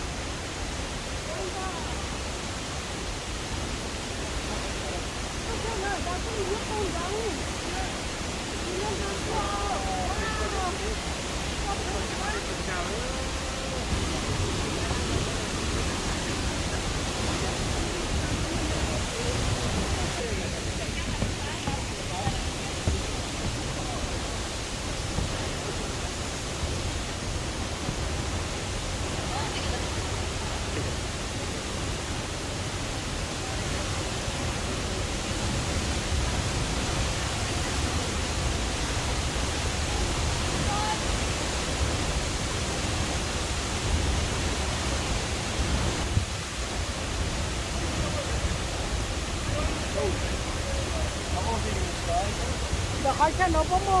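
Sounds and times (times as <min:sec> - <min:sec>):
waterfall rushing: 0:00.0 - 0:54.0
faint voices: 0:04.0 - 0:43.9, 0:44.6 - 0:54.0.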